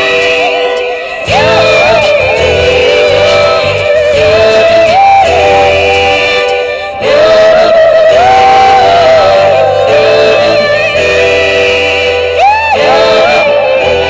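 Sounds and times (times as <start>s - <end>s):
pitch-bending melody line: 0.0s - 14.0s.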